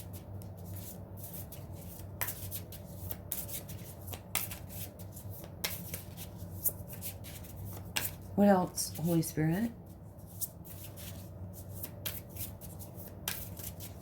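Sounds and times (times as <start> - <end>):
cards being shuffled: 0.0 - 8.3, 10.2 - 14.0
low steady hum: 0.0 - 14.0.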